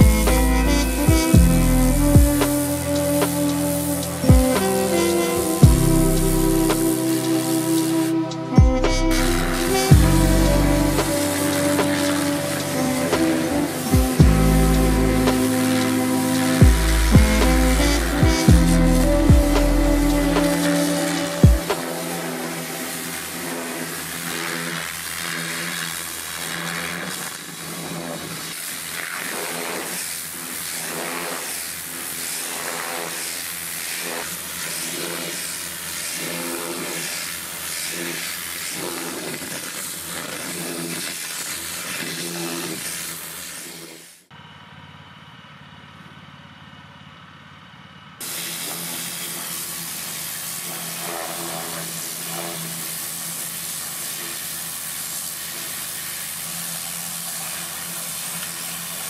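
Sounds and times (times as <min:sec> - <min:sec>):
pressure washer spray hissing: 0:00.0 - 0:44.3, 0:48.2 - 0:59.0.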